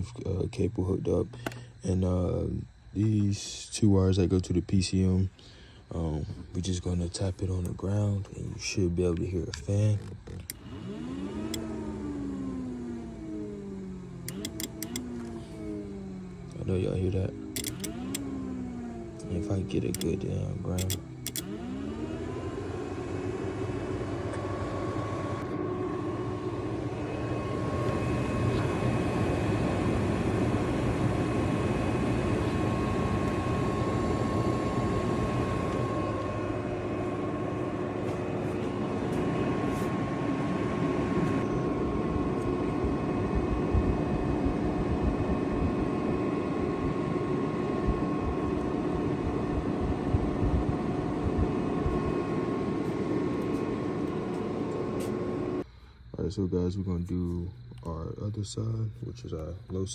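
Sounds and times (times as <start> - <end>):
radiator cooling fan whining: 0.0 - 59.9.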